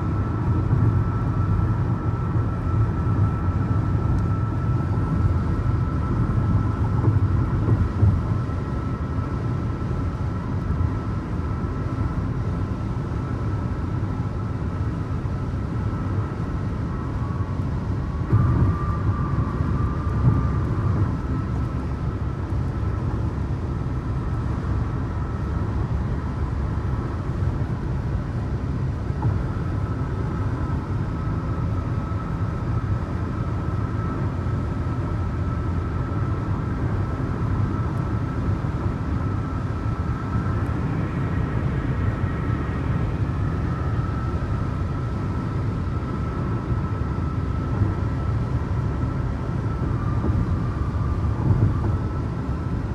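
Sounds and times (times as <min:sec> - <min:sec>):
faint steady whine: 0:00.0 - 0:52.9
vehicle road and engine rumble: 0:00.0 - 0:52.9.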